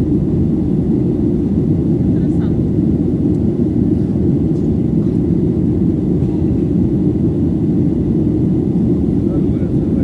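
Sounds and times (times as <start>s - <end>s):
airplane cabin low rumble: 0.0s - 10.0s.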